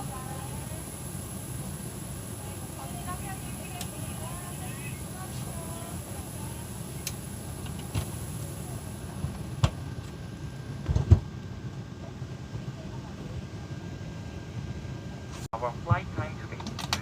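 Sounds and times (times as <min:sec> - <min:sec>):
low rumble of engines and ventilation: 0:00.0 - 0:17.0.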